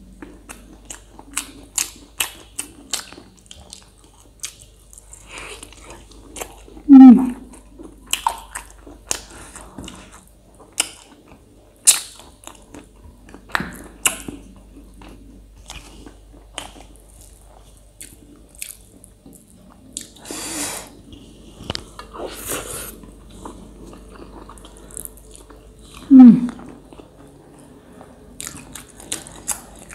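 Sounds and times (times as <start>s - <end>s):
person chewing food: 0.1s - 29.9s.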